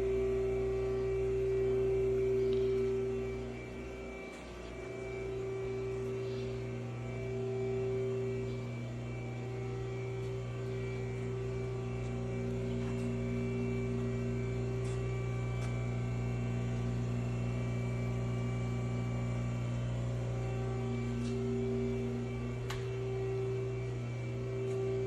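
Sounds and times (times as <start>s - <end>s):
lathe motor hum: 0.0s - 25.0s.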